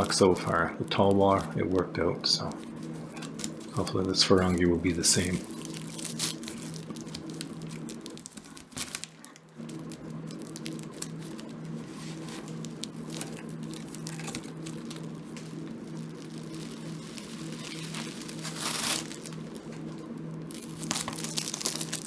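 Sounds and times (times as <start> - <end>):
bubble wrap crinkling and tearing: 0.0 - 22.0
steady low hum: 0.0 - 22.0.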